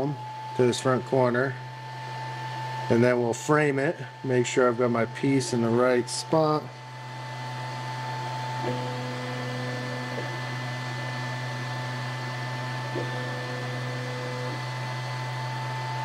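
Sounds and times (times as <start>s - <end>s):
stepper motors whining: 0.0s - 1.6s, 2.8s - 16.0s
fans whirring and humming: 0.0s - 16.0s.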